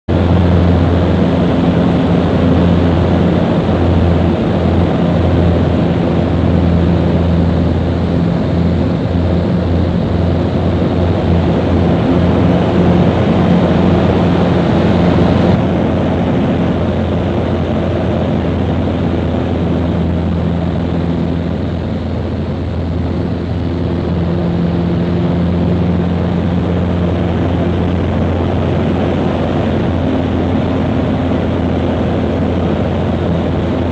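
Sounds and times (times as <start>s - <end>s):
propeller plane engine droning: 0.0s - 33.9s
heavy wind rush: 0.1s - 33.9s.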